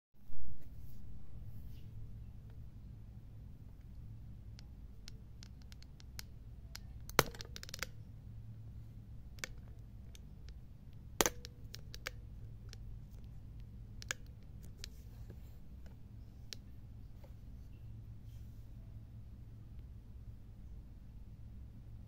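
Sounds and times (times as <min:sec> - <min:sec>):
low steady hum: 0:00.2 - 0:22.0.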